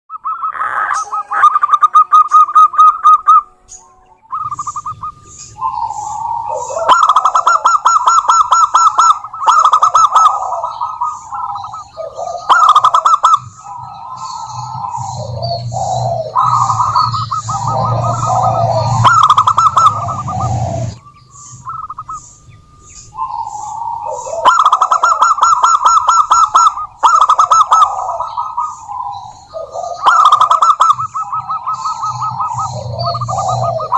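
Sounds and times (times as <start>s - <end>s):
dove cooing: 0.2s - 33.9s
low hum: 1.1s - 33.9s.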